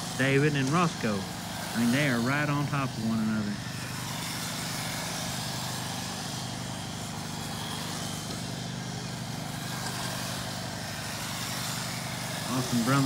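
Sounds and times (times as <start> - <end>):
rc cars racing: 0.0 - 13.0.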